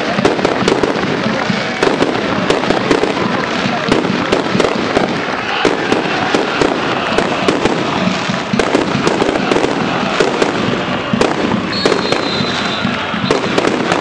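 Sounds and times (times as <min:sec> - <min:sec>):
continuous crackling: 0:00.0 - 0:14.0
fireworks bangs: 0:00.0 - 0:14.0.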